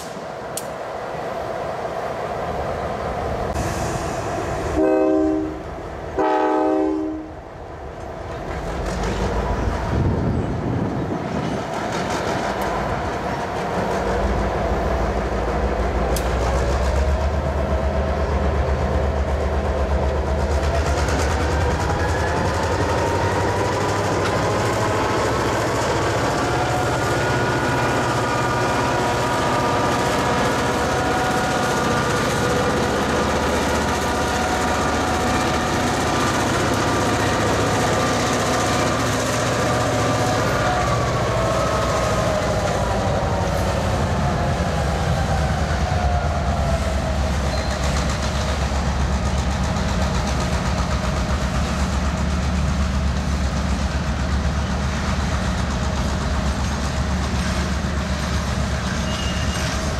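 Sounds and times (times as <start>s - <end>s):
diesel locomotive engines rumbling: 0.0s - 59.9s
locomotive whine: 0.0s - 59.9s.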